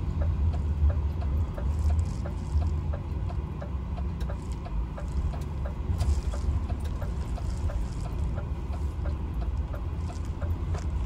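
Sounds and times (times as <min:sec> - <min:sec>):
steady light ticking: 0:00.0 - 0:11.0
truck engine and road rumble: 0:00.0 - 0:11.0.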